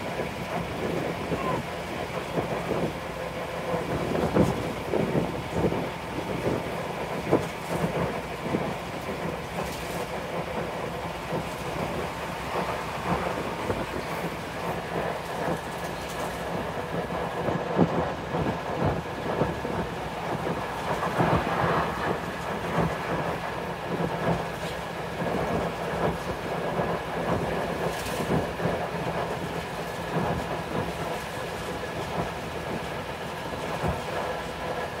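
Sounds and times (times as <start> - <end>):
bus diesel engine running: 0.0 - 35.0
wind buffeting through windows: 0.0 - 35.0.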